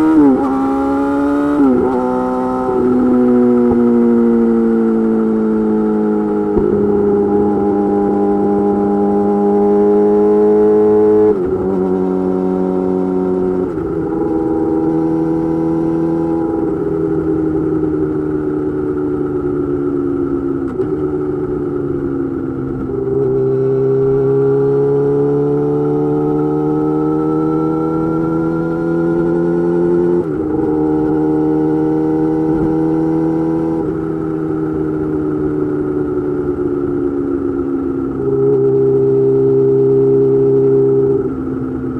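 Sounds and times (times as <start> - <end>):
motorcycle engine shifting gears: 0.0 - 41.9.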